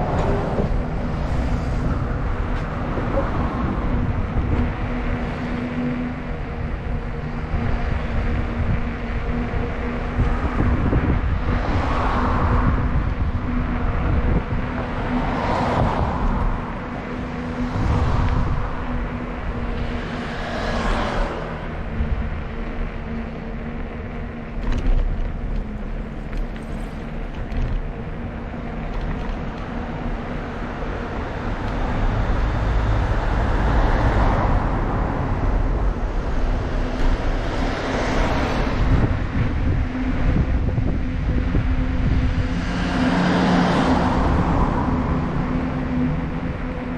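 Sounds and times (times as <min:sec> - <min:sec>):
cars passing: 0:00.0 - 0:46.9
wind rumble on microphone: 0:00.0 - 0:46.9.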